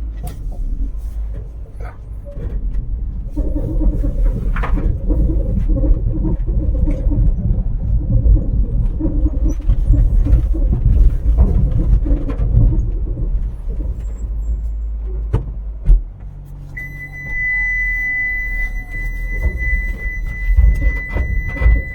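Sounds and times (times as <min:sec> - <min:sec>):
car engine and tyres rumbling: 0:00.0 - 0:21.9
knocks and rattles: 0:00.1 - 0:16.9, 0:18.4 - 0:21.9.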